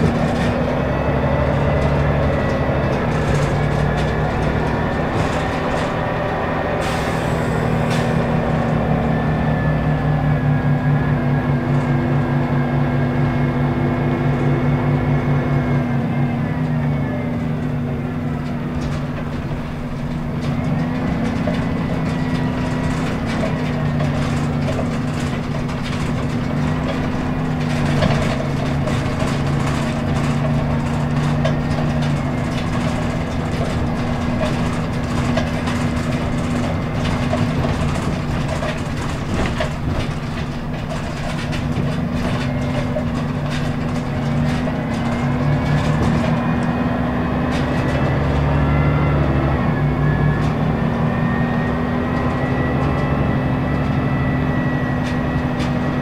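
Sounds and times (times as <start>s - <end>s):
bus diesel engine running: 0.0s - 56.0s
interior rattles and clicks: 0.0s - 56.0s.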